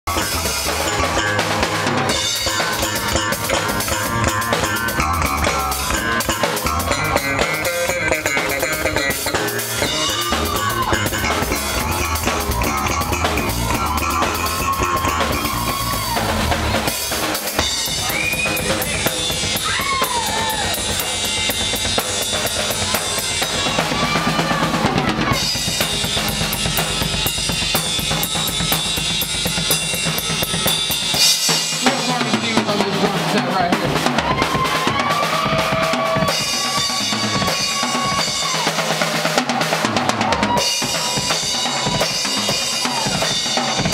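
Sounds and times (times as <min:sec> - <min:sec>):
bass line: 0:00.0 - 0:43.9
drum kit: 0:00.0 - 0:43.9
funk band playing: 0:00.0 - 0:43.9
sliding lead melody: 0:00.1 - 0:43.9.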